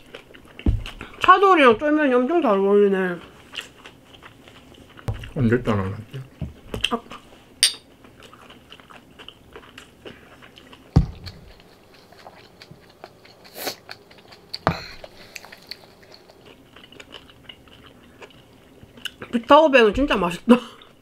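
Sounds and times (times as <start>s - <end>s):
people chewing food: 0.0s - 21.0s.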